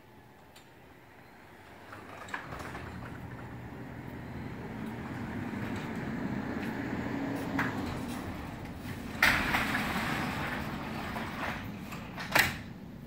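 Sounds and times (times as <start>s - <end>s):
rollers rumbling along tracks: 0.8s - 13.0s.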